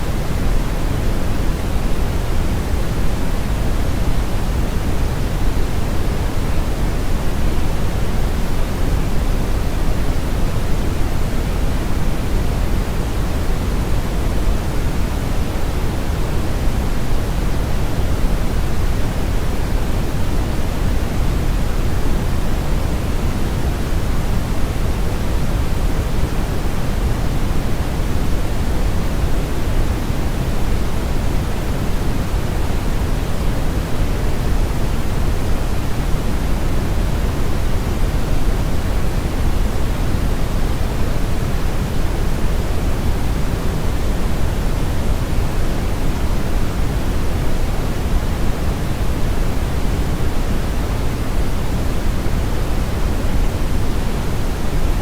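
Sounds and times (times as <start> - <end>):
low-weighted steady hiss: 0.0 - 55.0.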